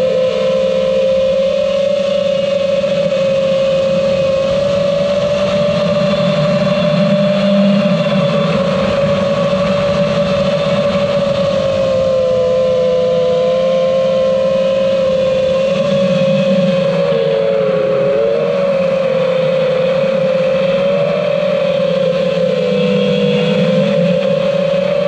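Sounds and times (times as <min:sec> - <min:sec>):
quadcopter motors buzzing: 0:00.0 - 0:25.0.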